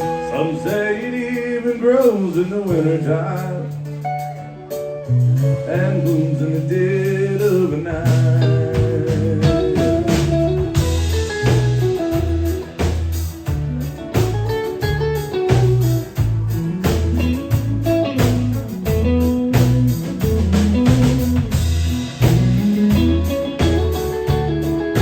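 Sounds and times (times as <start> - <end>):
bass notes: 0.0 - 25.0
guitar picking a melody: 0.0 - 25.0
steady drum beat: 0.0 - 25.0.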